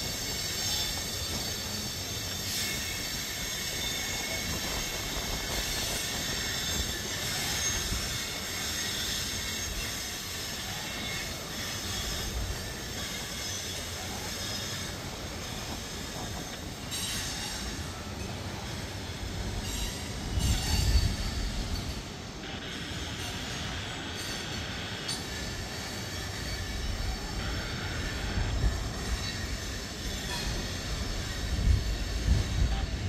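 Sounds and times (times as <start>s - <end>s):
low train rumble: 0.0s - 33.0s
train wheels squealing: 0.0s - 33.0s.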